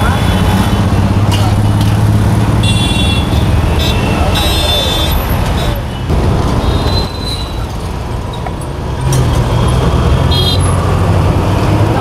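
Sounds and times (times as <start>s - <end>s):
heavy vehicles rumbling: 0.0s - 12.0s.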